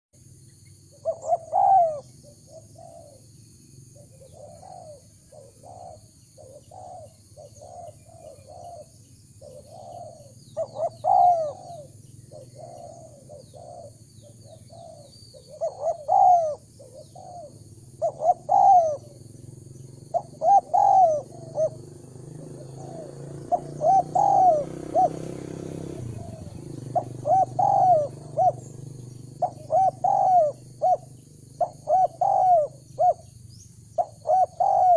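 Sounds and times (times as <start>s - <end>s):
doves cooing: 0.9s - 34.9s.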